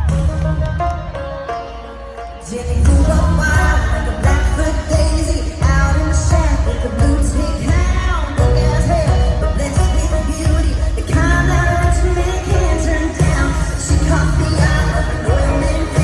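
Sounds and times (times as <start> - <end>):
live country-pop band: 0.0 - 16.0
woman singing: 2.4 - 16.0.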